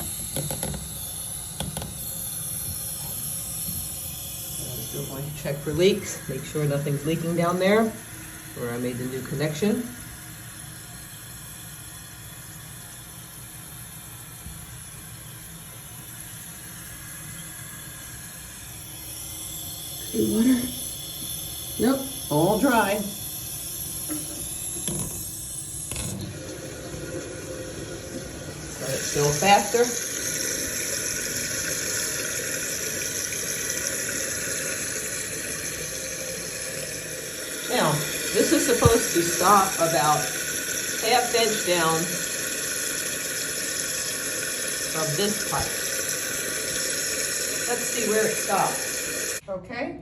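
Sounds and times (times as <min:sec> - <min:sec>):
water filling toilet tank: 0:00.0 - 0:49.4.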